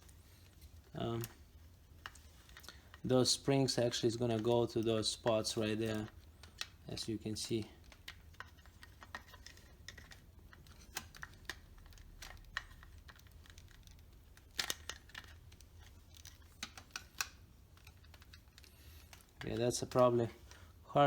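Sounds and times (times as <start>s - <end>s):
plastic parts clicking: 3.8s - 20.6s.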